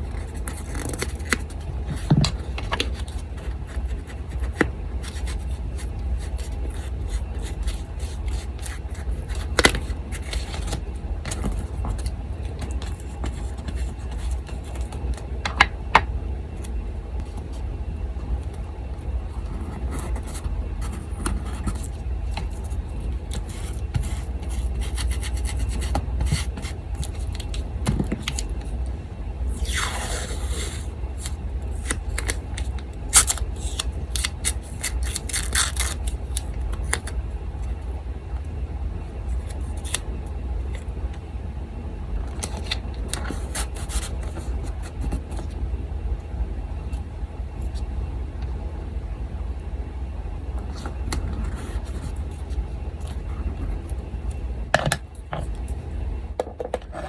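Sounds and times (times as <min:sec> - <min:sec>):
electric fan hum: 0:00.0 - 0:57.0.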